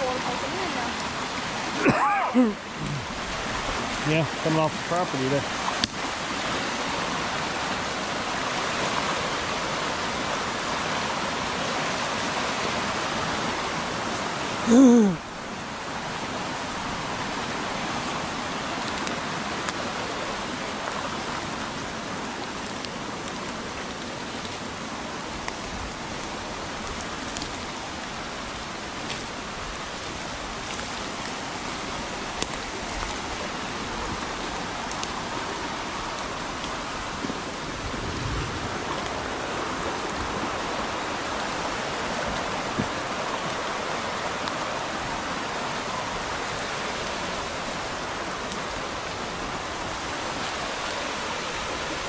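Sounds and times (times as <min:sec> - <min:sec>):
creek water rushing: 0:00.0 - 0:52.0
heavy rain: 0:00.0 - 0:52.0.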